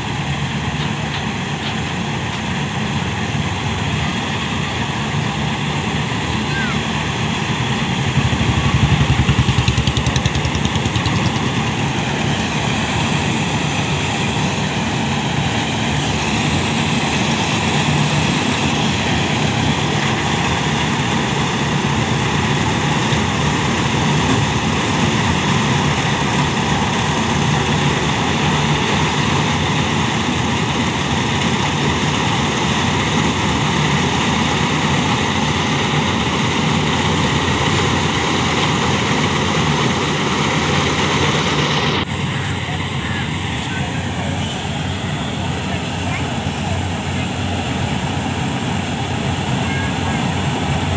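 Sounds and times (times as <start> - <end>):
combine harvester running: 0.0 - 50.9
tractor engine running: 0.0 - 50.9
unloading auger discharging grain: 0.0 - 50.9.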